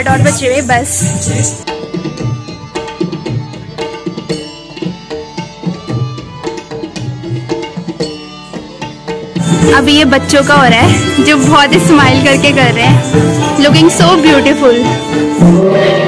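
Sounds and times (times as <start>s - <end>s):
tabla strokes: 0.0s - 16.0s.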